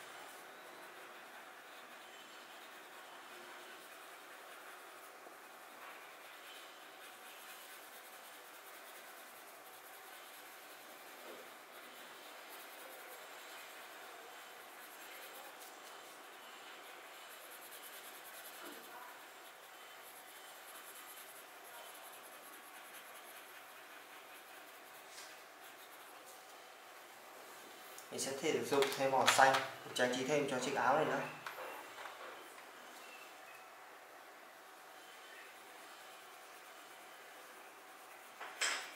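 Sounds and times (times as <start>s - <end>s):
pencil scratching on paper: 0.0s - 38.5s.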